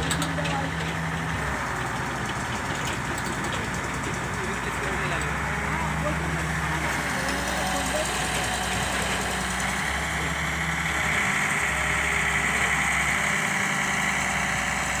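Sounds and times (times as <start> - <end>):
diesel engine idling: 0.0 - 15.0
high engine whine: 0.0 - 15.0.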